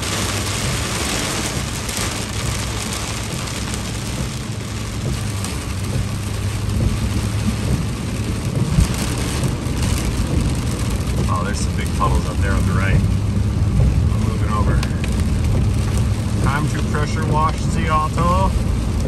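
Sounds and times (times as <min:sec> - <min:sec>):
engine and road drone: 0:00.0 - 0:19.0
heavy rain pelting a truck: 0:00.0 - 0:19.0
tyre spray on wet road: 0:00.0 - 0:19.0.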